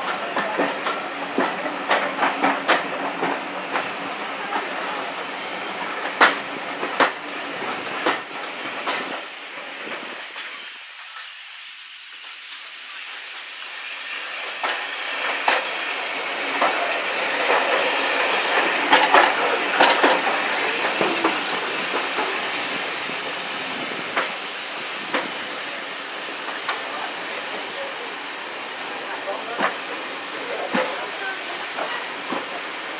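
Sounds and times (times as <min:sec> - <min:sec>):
wheels clicking over rail joints: 0:00.0 - 0:11.4, 0:14.4 - 0:25.6, 0:28.9 - 0:32.7
train rumbling on rails: 0:00.0 - 0:32.9.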